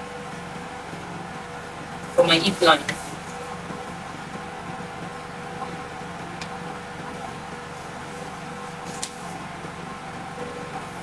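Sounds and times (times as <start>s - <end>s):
mechanical room hum: 0.0s - 11.0s.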